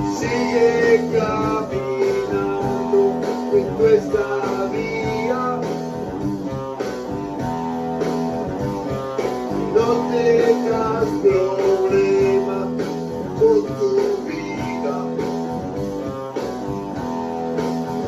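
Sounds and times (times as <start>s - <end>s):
guitar playing: 0.0s - 18.0s.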